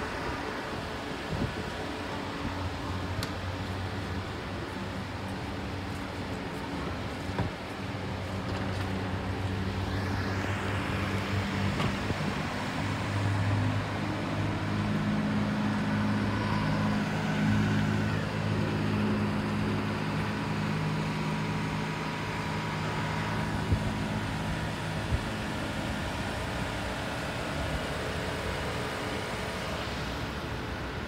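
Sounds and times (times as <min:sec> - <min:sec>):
traffic noise: 0:00.0 - 0:31.0
vehicle engine idling: 0:00.0 - 0:31.0.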